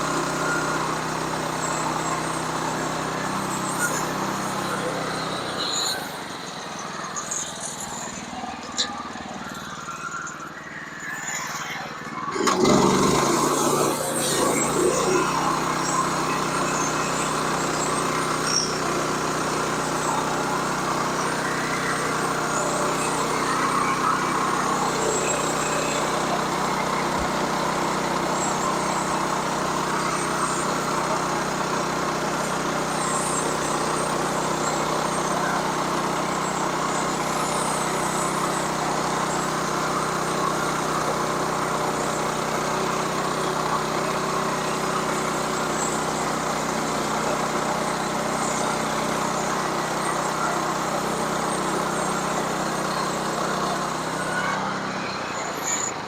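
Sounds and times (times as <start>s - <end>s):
small gasoline engine starting: 0.0s - 56.0s.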